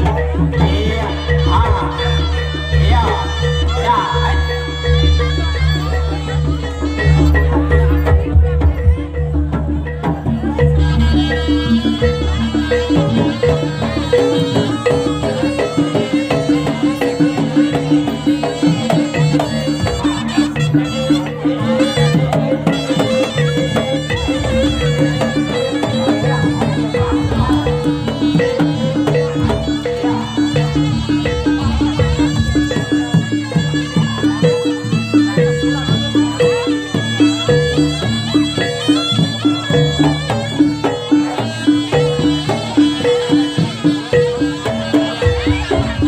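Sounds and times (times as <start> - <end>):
reedy shawm melody: 0.0 - 46.0.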